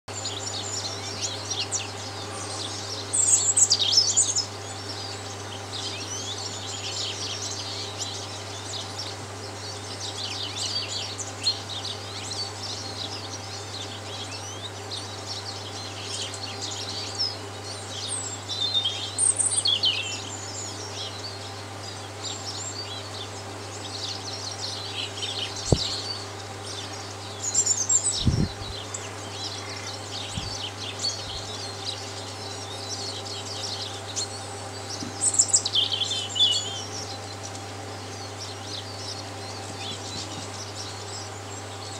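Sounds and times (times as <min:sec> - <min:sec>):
birds chirping and singing: 0:00.1 - 0:41.9
steady low hum: 0:00.1 - 0:41.9.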